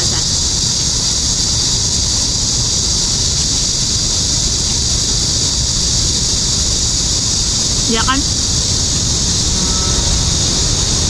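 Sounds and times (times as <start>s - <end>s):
high-pitched insect drone: 0.0s - 11.0s
wind rumbling on microphone: 0.0s - 11.0s.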